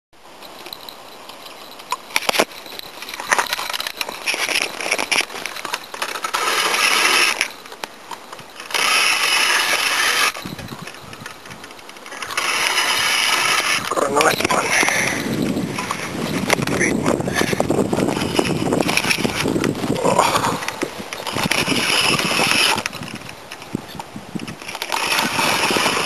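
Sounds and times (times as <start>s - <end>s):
camera handling rustle: 1.7s - 26.0s.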